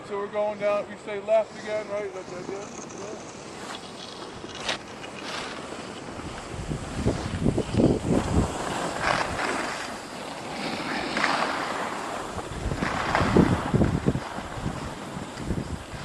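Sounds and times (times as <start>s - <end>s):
wind buffeting microphone: 0.0s - 16.0s
skis scraping over snow: 0.1s - 16.0s.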